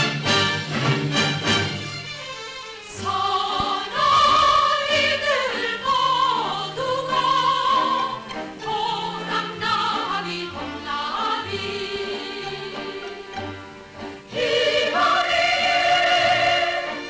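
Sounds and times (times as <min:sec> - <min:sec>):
orchestra playing: 0:00.0 - 0:17.0
singers holding long notes: 0:02.8 - 0:17.0.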